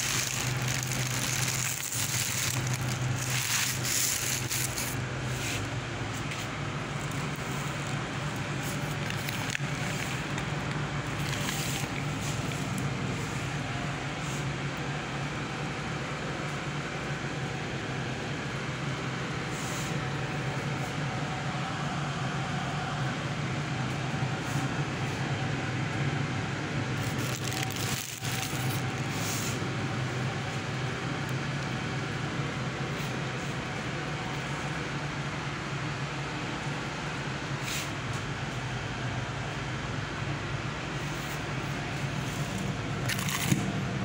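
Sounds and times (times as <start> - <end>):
low machine hum: 0.0 - 44.0.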